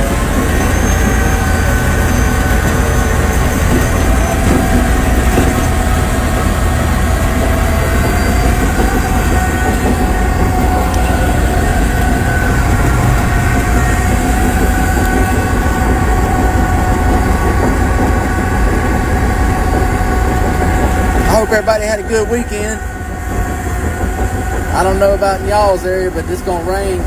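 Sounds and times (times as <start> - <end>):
bulldozer diesel engine whine: 0.0 - 27.0
steel tracks clanking: 0.0 - 27.0.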